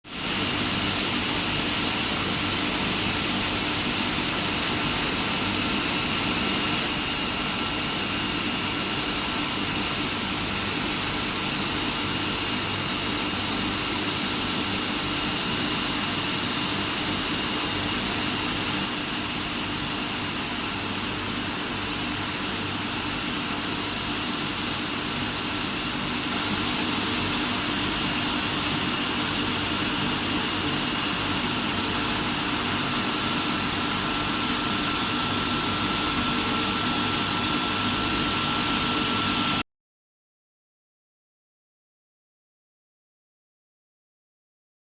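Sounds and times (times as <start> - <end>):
high-pitched whine: 0.1 - 39.6.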